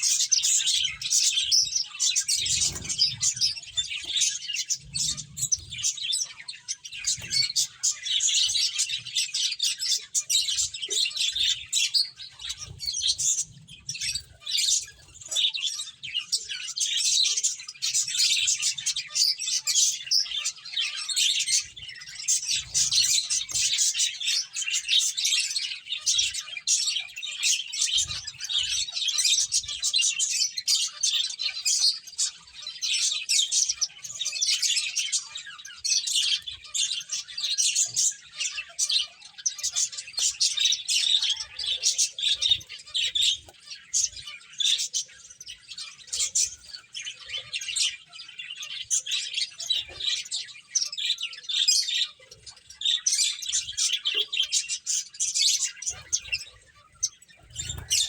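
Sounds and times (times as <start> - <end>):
finches chirping: 0.0 - 58.0.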